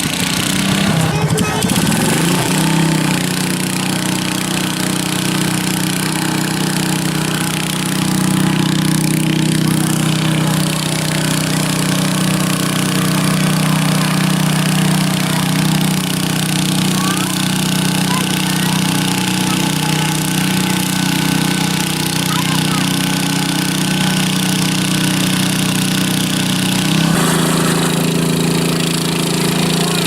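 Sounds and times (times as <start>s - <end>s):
tractor engine running hard: 0.0s - 30.0s.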